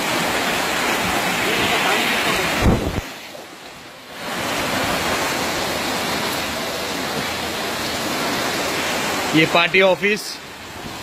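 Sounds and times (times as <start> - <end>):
heavy rain and floodwater rushing: 0.0 - 11.0.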